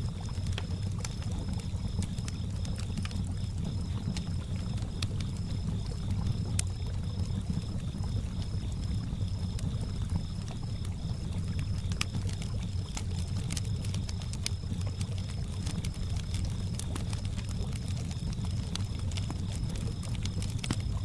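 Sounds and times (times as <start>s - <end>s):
campfire crackling: 0.0s - 21.0s
crickets chirping: 0.0s - 21.0s.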